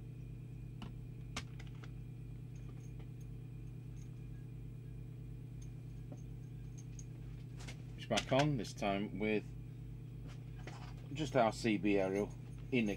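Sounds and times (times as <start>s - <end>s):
low electrical mains hum: 0.0s - 12.9s.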